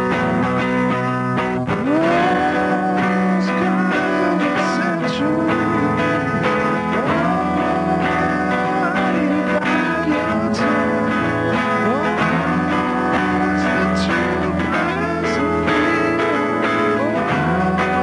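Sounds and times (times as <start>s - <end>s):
guitar-led music with sliding notes: 0.0s - 18.0s.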